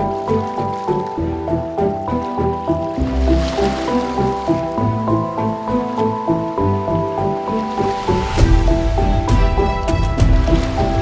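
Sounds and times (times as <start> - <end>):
calm ambient instrumental music: 0.0 - 11.0
ocean waves: 0.0 - 11.0.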